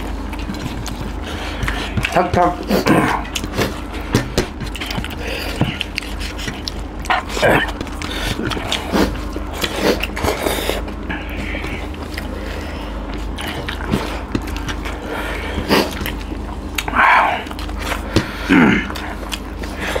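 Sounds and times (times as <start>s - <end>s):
people chewing: 0.0s - 20.0s
steady low hum: 0.0s - 20.0s.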